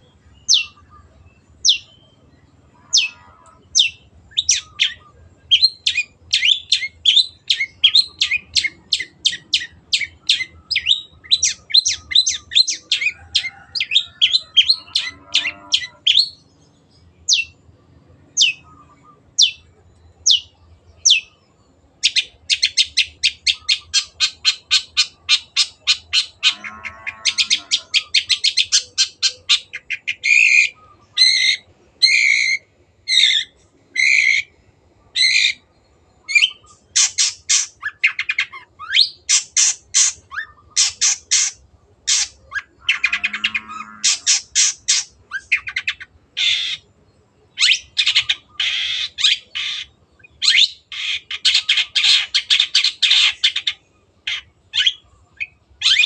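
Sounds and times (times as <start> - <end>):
bird singing harsh notes: 0.0 - 17.6, 18.3 - 34.6, 35.2 - 46.9, 47.6 - 56.0
bird calls: 0.0 - 56.0.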